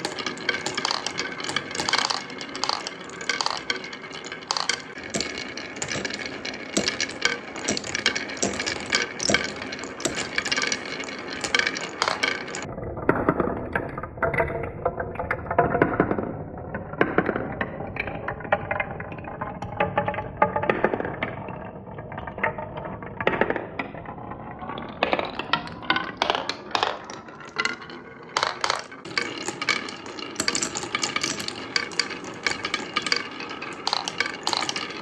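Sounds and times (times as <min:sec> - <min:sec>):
marbles clicking on wood: 0:00.0 - 0:35.0
marbles rolling on wooden track: 0:00.0 - 0:35.0.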